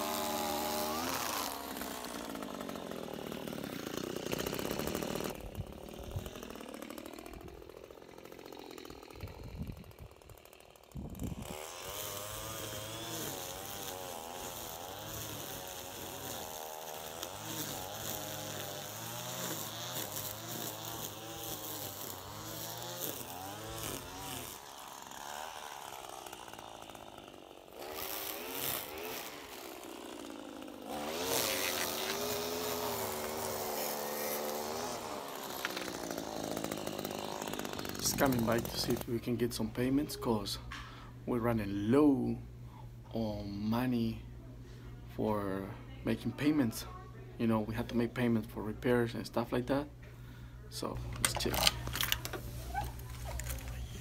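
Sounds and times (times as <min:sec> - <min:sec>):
string trimmer engine running: 0:00.0 - 0:42.4, 0:50.2 - 0:54.0.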